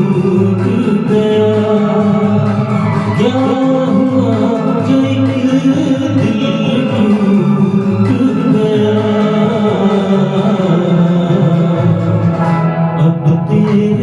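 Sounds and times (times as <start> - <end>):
instrumental backing music: 0.0 - 14.0
person singing: 0.0 - 14.0.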